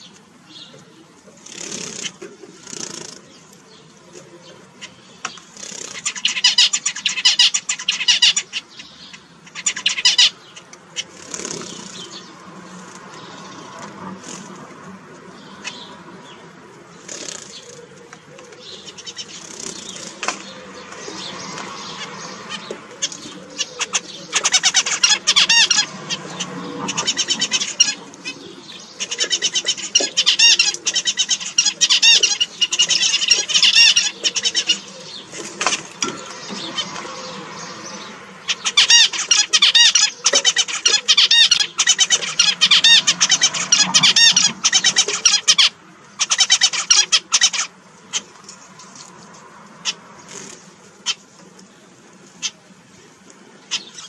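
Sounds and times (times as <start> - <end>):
finches calling: 0.0 - 14.4, 15.2 - 48.4, 53.6 - 54.0.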